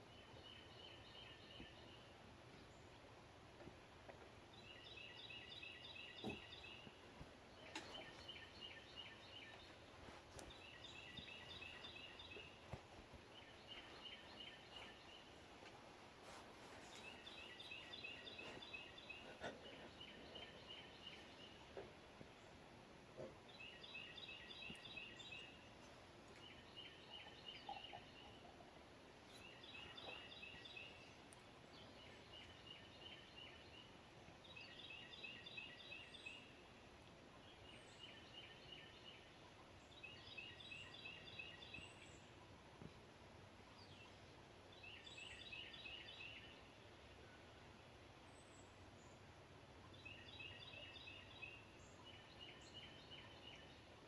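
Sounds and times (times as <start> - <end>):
low steady hiss: 0.0 - 54.0.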